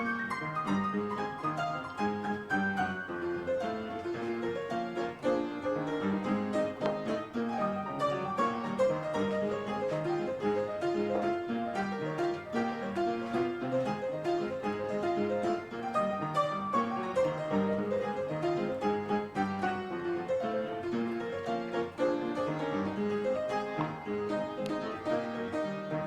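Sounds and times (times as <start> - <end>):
quick run of piano notes: 0.0 - 26.0.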